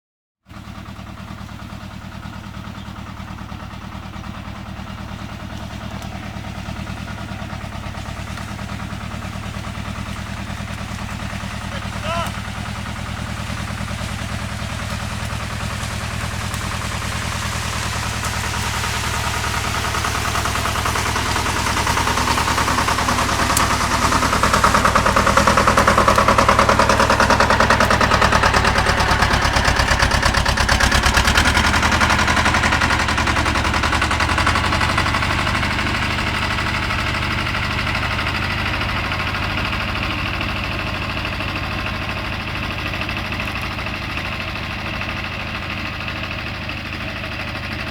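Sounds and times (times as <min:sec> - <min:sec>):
tractor engine running: 0:00.5 - 0:47.9.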